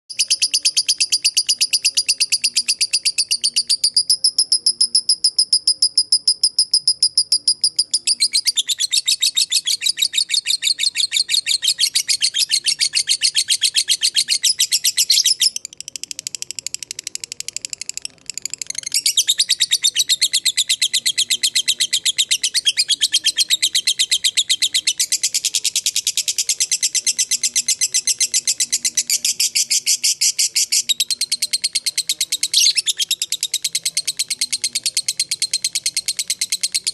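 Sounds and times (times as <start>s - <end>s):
lovebird chattering: 0.1s - 16.8s, 17.8s - 36.9s.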